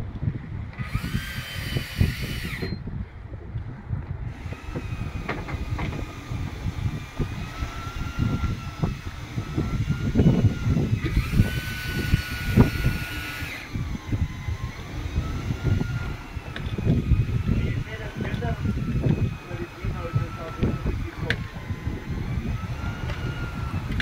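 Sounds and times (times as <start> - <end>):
boat engine running: 0.0 - 24.0
wind on microphone: 0.0 - 24.0.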